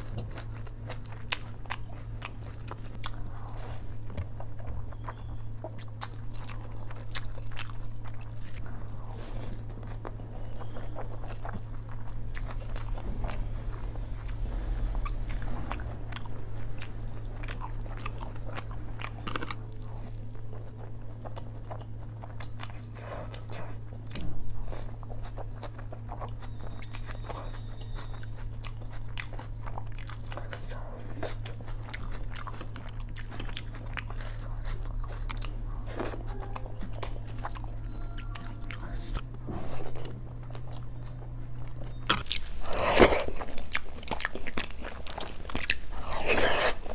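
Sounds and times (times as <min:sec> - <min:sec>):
low steady hum: 0:00.0 - 0:46.9
wet chewing and lip smacks: 0:00.0 - 0:46.9.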